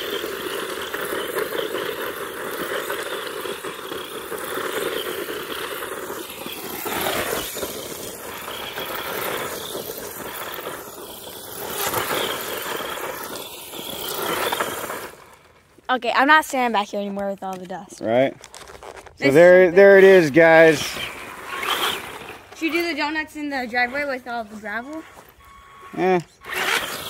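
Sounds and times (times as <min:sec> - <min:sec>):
electric motor whining: 0:00.0 - 0:15.6, 0:19.3 - 0:27.0
tyres scrabbling in loose dirt: 0:00.0 - 0:27.0.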